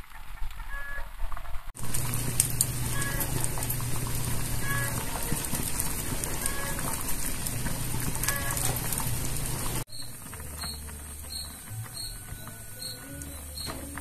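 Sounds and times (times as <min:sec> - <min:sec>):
pot simmering with crackles: 0:01.7 - 0:14.0
low steady hum: 0:01.8 - 0:14.0.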